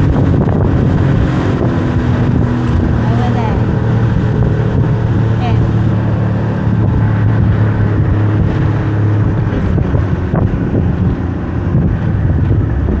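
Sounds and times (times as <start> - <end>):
boat engine running: 0.0 - 13.0
water rushing along hull: 0.0 - 13.0
wind buffeting microphone: 0.0 - 13.0.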